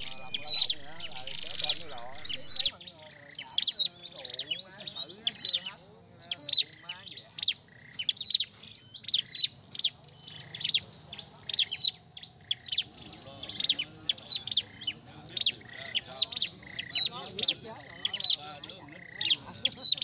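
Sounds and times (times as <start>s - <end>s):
bird singing sharp chirps: 0.0s - 20.0s.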